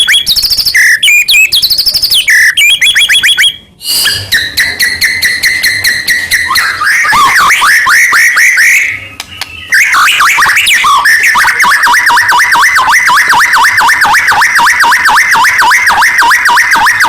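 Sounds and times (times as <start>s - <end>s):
bird singing rapid chirps: 0.0s - 14.0s.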